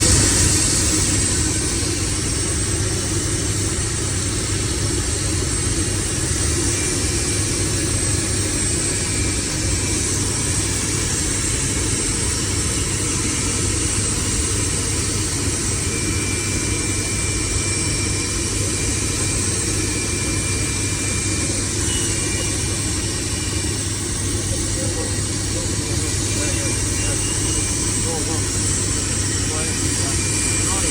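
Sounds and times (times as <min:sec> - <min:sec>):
faint high whine: 0:00.0 - 0:30.9
turbine running: 0:00.0 - 0:30.9.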